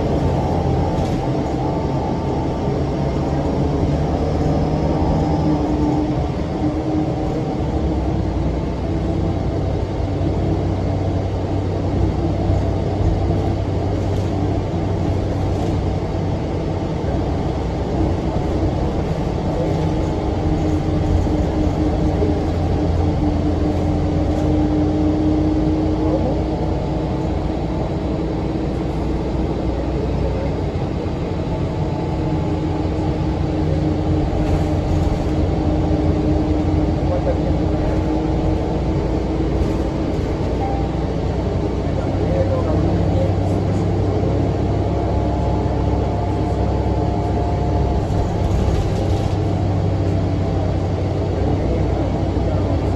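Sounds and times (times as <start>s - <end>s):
bus diesel engine humming: 0.0s - 52.9s.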